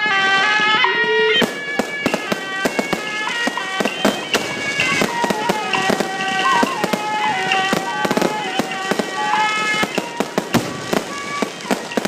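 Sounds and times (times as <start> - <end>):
procession melody over loudspeaker: 0.0 - 12.0
electronic firecracker bangs: 1.4 - 12.0.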